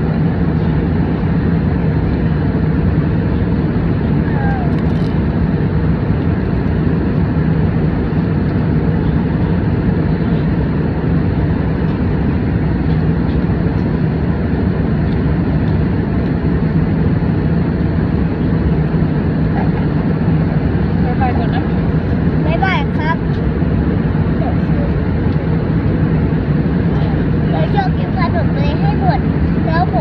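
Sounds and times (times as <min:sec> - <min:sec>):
airliner cabin engine drone: 0:00.0 - 0:30.0.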